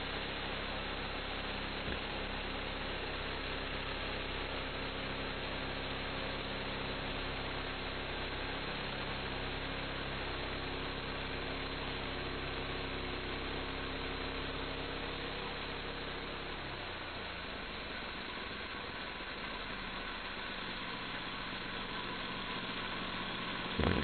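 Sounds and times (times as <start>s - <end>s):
gas engine running: 0.0s - 24.0s.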